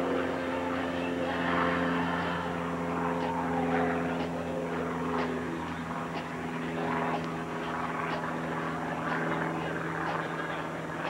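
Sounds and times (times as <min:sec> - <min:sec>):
faint voices: 0:00.0 - 0:11.0
steady mechanical hum: 0:00.0 - 0:11.0.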